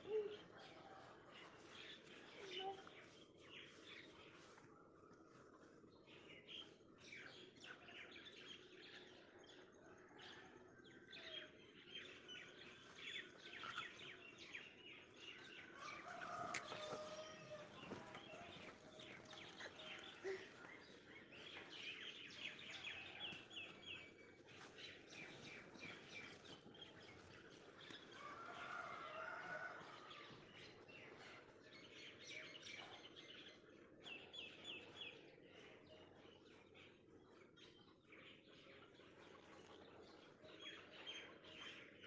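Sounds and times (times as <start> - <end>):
small birds chirping: 0.0 - 9.7, 11.2 - 42.0.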